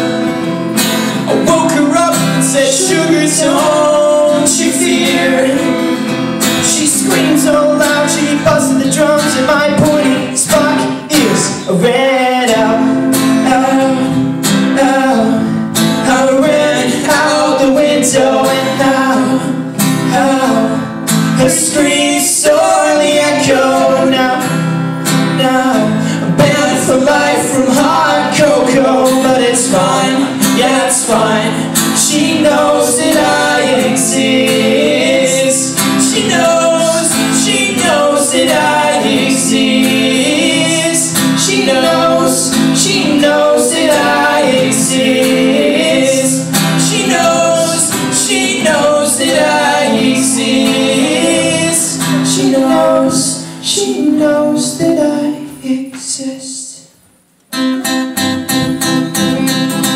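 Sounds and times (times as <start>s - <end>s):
acoustic guitars: 0.0s - 59.9s
person singing: 1.2s - 24.6s, 25.3s - 56.9s, 57.6s - 59.9s.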